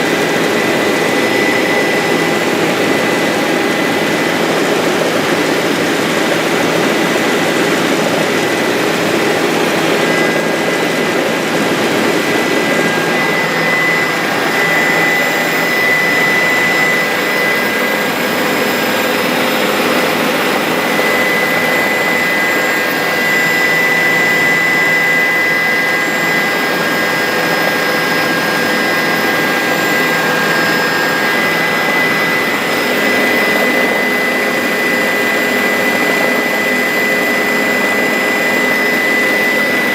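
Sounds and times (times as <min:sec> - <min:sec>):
helicopter engine and rotors: 0:00.0 - 0:39.9.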